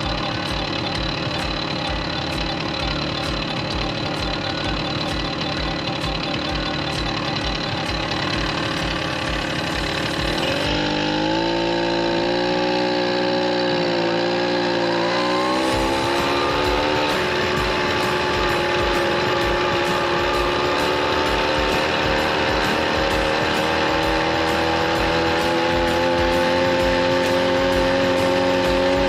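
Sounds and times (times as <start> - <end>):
moped engine running: 0.0 - 29.0.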